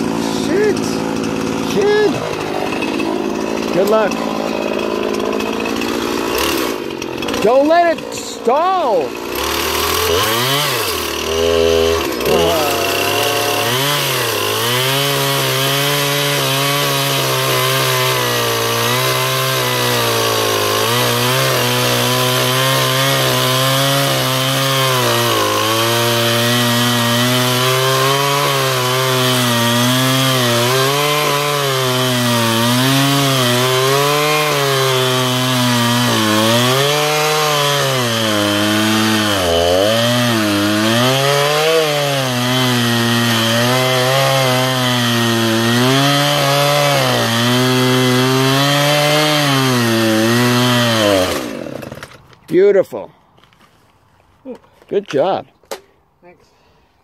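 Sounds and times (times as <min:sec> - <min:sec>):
chainsaw cutting wood: 0:00.0 - 0:52.6.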